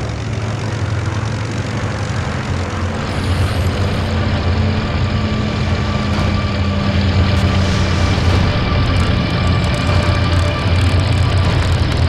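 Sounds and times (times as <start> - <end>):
aircraft piston engines droning: 0.0 - 12.0.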